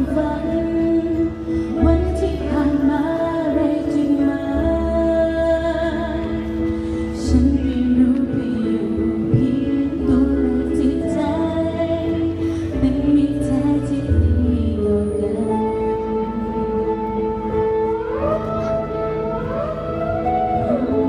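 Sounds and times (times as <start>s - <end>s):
instrumental accompaniment with bass: 0.0s - 21.0s
live music with held chords: 0.0s - 21.0s
woman singing into microphone: 0.0s - 21.0s.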